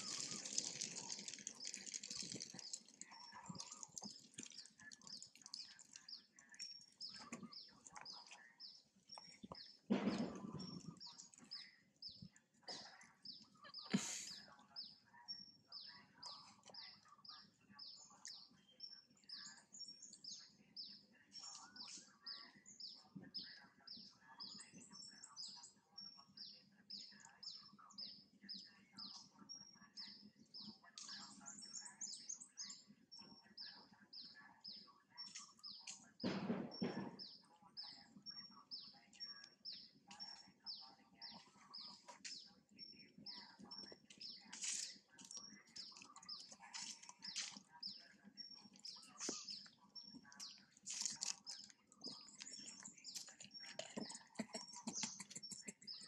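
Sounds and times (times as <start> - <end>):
small bird chirping: 0.0 - 56.0.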